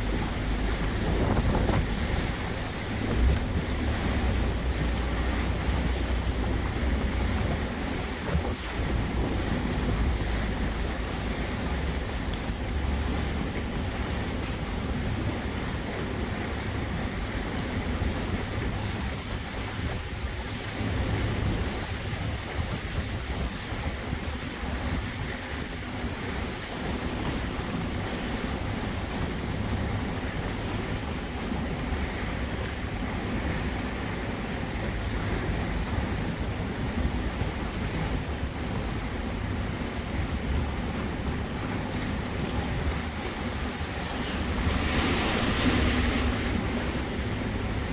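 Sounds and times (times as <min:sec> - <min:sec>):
low steady rumble: 0:00.0 - 0:47.9
water splashing along boat hull: 0:00.0 - 0:47.9
wind buffeting microphone: 0:00.0 - 0:47.9.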